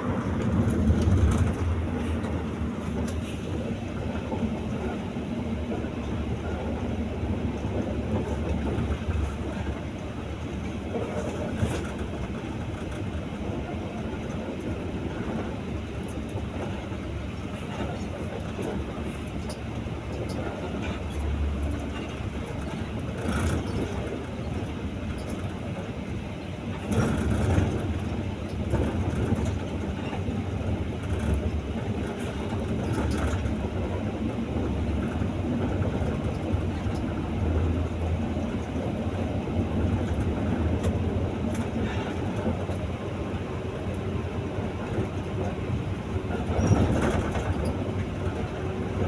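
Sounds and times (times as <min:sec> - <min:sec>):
bus engine drone and road noise: 0:00.0 - 0:49.0.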